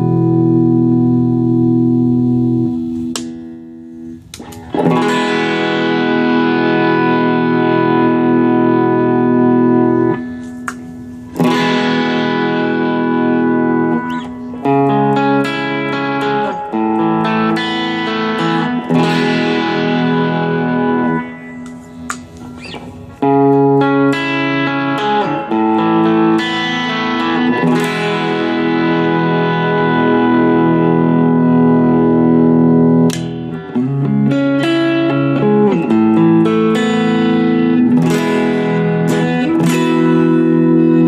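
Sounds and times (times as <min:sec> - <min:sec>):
electric guitar chords ringing: 0:00.0 - 0:41.0.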